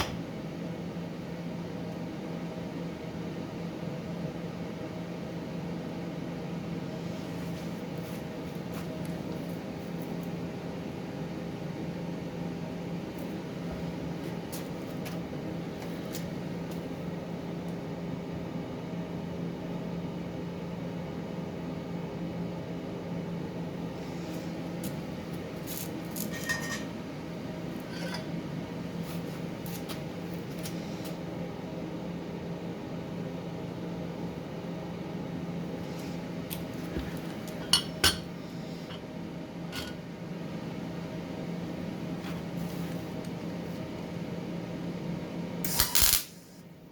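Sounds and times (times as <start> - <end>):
welder fan hum: 0.0 - 46.9.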